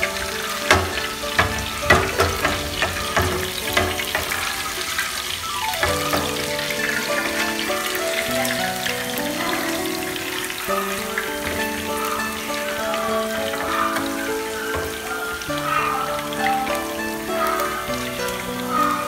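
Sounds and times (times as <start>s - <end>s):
background music: 0.0s - 19.0s
fat sizzling in a frying pan: 0.0s - 19.0s.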